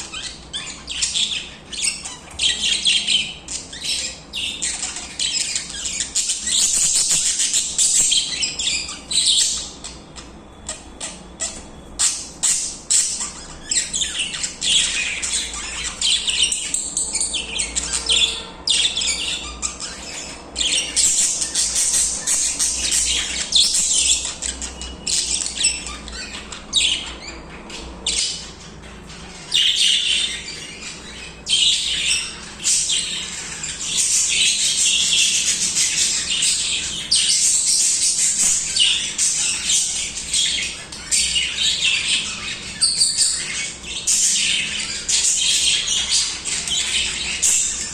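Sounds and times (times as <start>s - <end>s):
budgies chattering and warbling: 0.0s - 47.9s.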